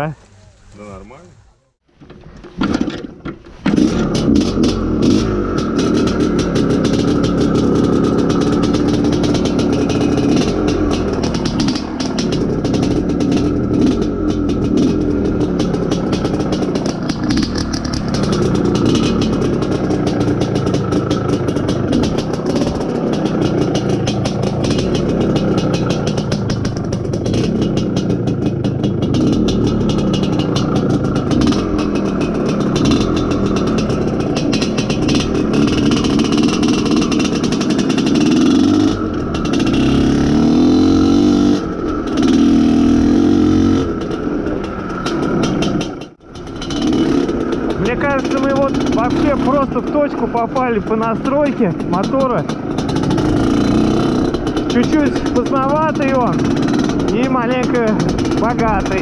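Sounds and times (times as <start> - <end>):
two-stroke motorcycle engine revving: 2.6 - 59.0.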